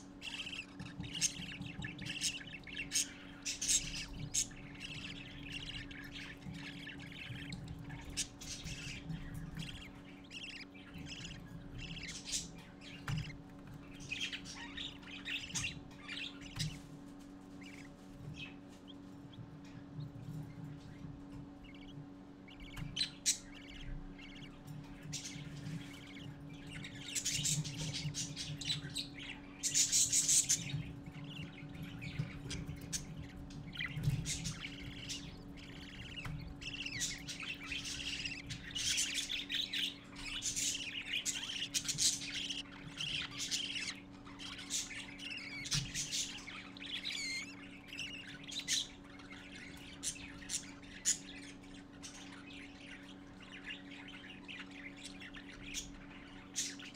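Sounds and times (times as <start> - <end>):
parakeet chicks chirping and squawking: 0.0 - 56.9
steady low hum: 0.0 - 56.9.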